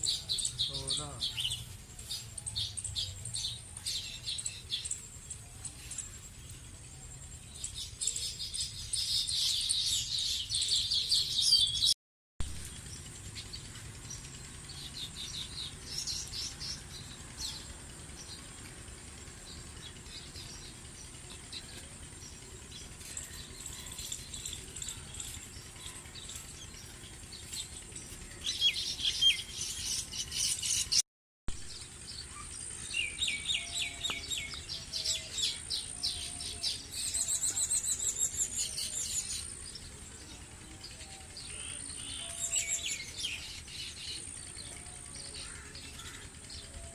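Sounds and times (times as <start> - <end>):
small birds chirping: 0.0 - 31.0, 31.6 - 46.9.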